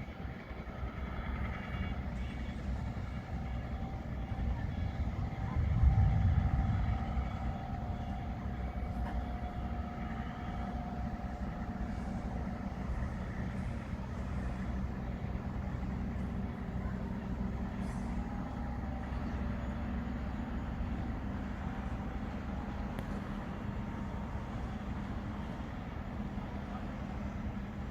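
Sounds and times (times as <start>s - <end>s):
pile driver engine running: 0.0s - 27.9s.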